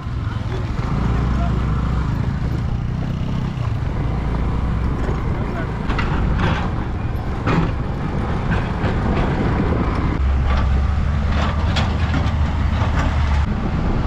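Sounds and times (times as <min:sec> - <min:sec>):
motorbike on bumpy dirt track: 0:00.0 - 0:14.0.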